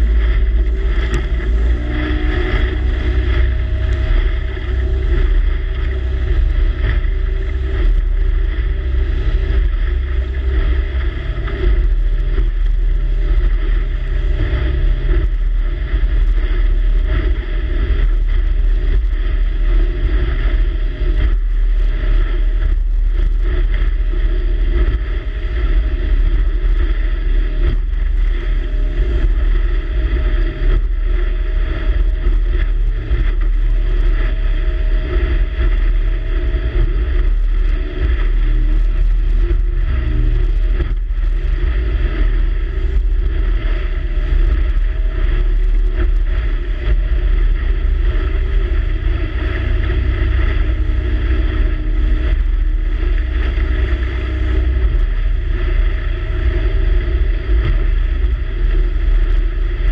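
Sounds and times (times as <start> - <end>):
boat engine drone: 0.0 - 59.9.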